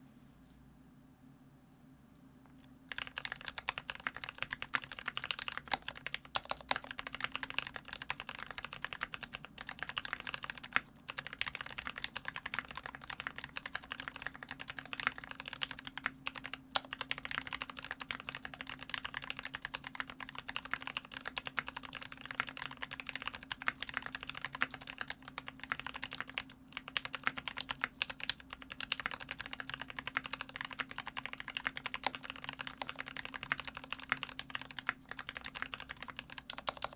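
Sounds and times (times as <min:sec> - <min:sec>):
mechanical keyboard typing: 0:02.9 - 0:36.9.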